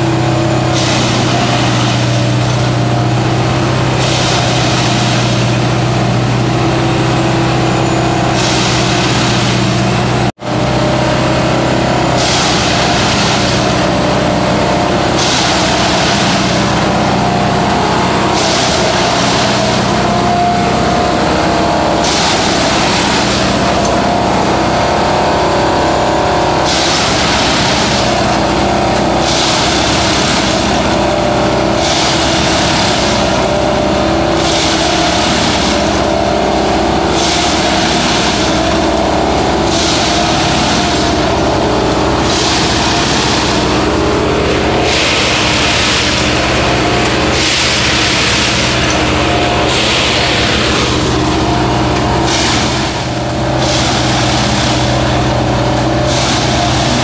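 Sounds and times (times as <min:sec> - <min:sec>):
diesel engine and hydraulics running: 0:00.0 - 0:57.0.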